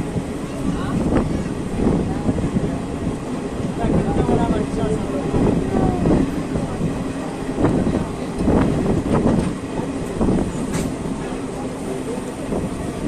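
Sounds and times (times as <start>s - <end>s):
train coach rumble: 0.0s - 13.0s
wheels clanking over track: 0.1s - 13.0s.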